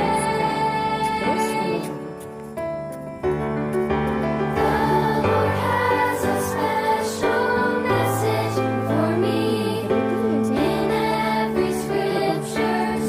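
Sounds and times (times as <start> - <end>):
choir singing religious song: 0.0 - 2.2, 4.4 - 13.0
instrumental accompaniment: 0.0 - 13.0.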